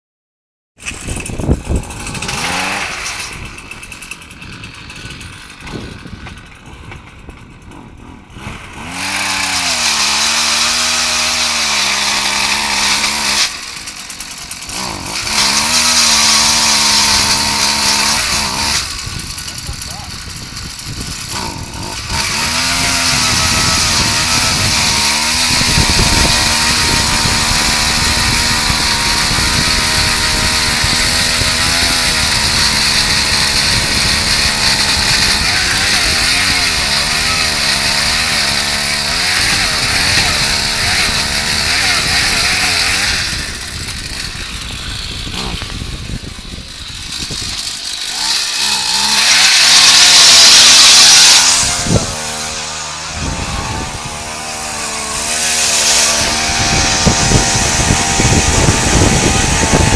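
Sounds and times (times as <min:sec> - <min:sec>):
ice auger engine drilling: 0:00.8 - 0:59.9.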